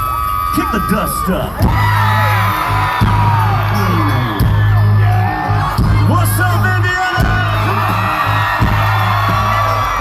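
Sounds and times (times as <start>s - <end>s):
audience whooping: 0.0s - 10.0s
live country band playing: 0.0s - 10.0s.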